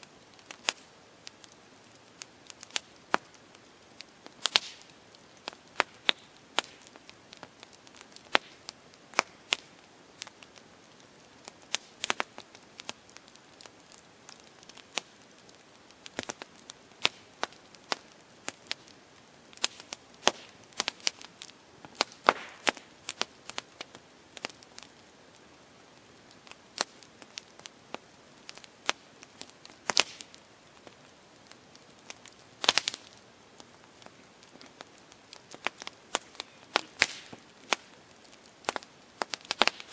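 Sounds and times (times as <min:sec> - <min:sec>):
campfire crackling and popping: 0:00.0 - 0:39.9
faint steady hiss: 0:00.0 - 0:39.9.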